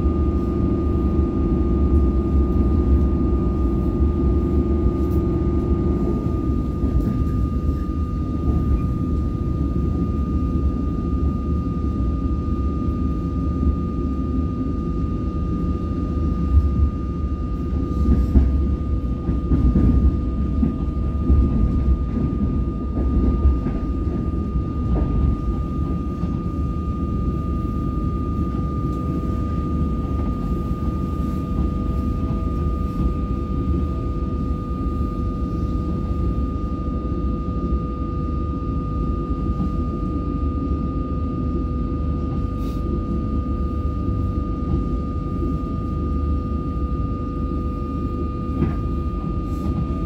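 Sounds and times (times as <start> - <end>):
train cabin rumble: 0.0 - 50.0.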